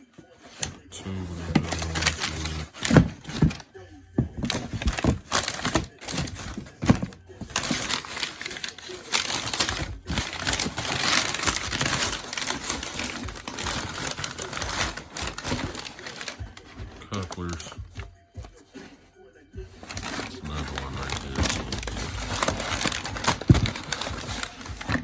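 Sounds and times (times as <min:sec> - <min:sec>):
crinkly packaging rustling: 0:00.0 - 0:25.0.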